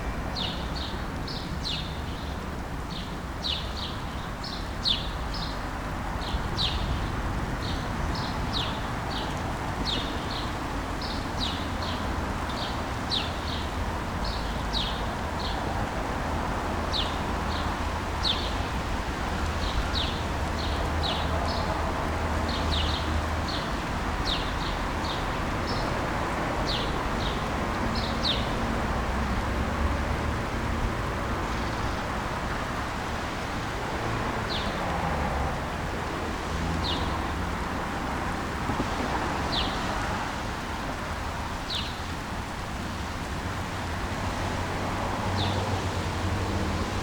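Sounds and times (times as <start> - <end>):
distant traffic rumble: 0.0 - 47.0.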